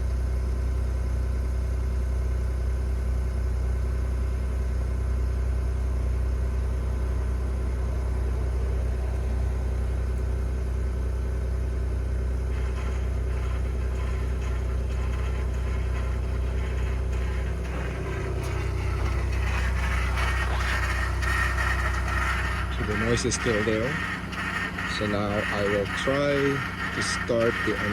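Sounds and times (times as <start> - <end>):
truck engine humming with grinding: 0.0 - 27.9
rough higher engine noise: 5.2 - 27.9.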